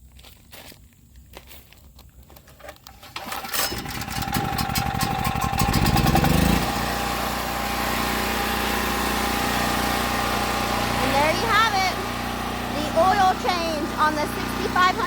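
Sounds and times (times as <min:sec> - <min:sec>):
generator engine starting and running: 0:02.6 - 0:15.0.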